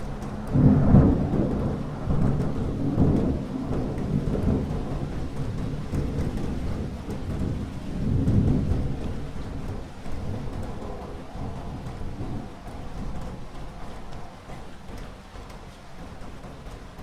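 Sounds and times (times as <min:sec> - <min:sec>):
low rolling thunder: 0:00.0 - 0:17.0
steady rain falling: 0:00.0 - 0:17.0.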